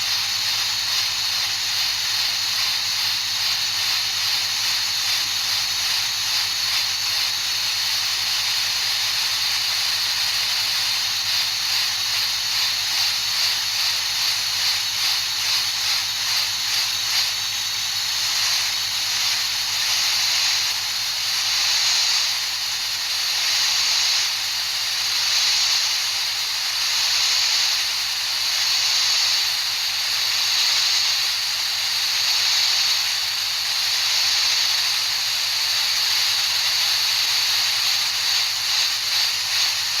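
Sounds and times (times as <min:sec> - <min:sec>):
high-pitched pulsing hiss: 0:00.0 - 0:40.0.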